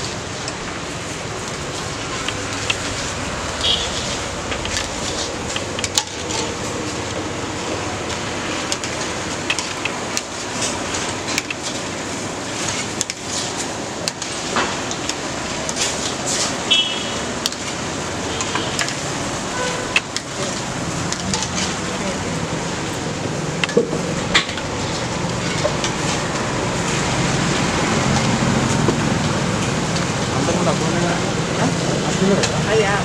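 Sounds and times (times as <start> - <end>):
hot oil sizzling: 0.0 - 33.0.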